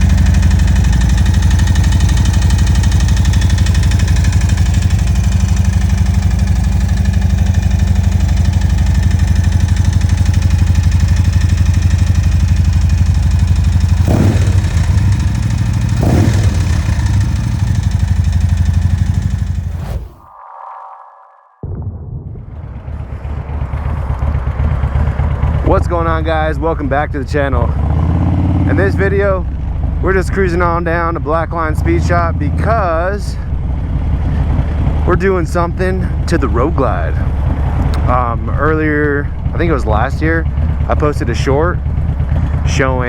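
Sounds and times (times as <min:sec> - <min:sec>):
engine tapping: 0:00.0 - 0:19.8, 0:22.6 - 0:43.0
motorcycle engine running: 0:00.0 - 0:20.1, 0:22.4 - 0:43.0.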